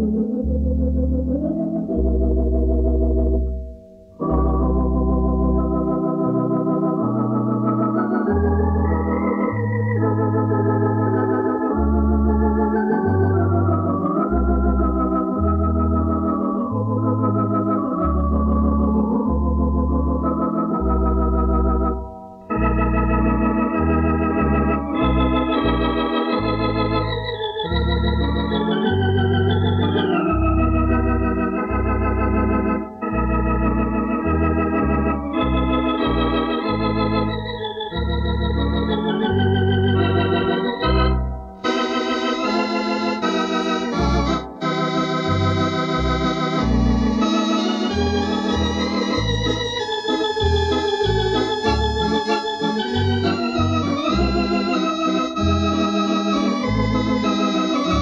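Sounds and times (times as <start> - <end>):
electronic organ melody: 0.0 - 58.0.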